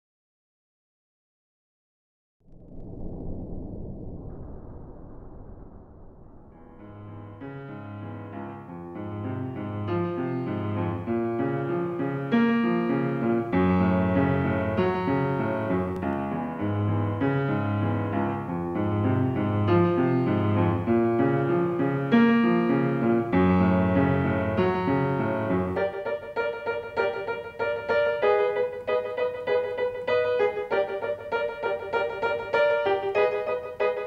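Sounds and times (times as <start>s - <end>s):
piano music: 6.6s - 34.0s.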